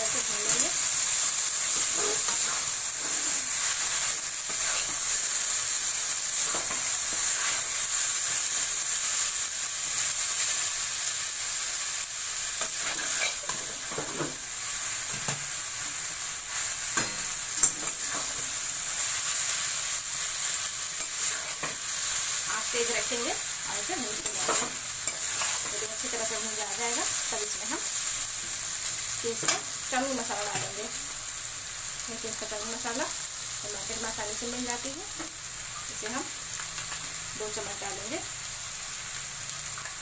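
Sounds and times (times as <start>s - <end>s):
noodles sizzling in hot oil: 0.0s - 40.0s.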